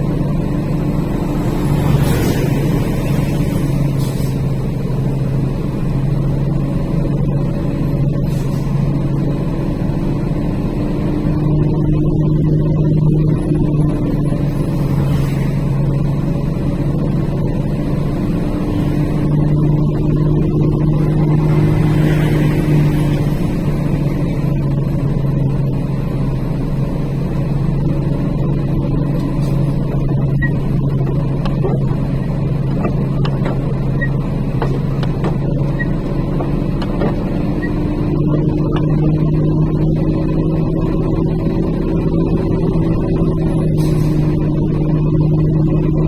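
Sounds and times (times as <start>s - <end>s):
truck engine braking drone: 0.0s - 46.0s.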